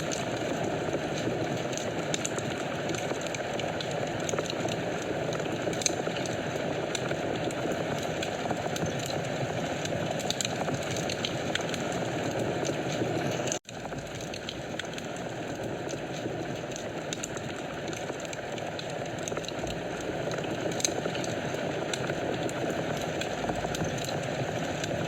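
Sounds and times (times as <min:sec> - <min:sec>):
fire crackles and pops: 0:00.0 - 0:25.0
wood fire burning: 0:00.0 - 0:25.0.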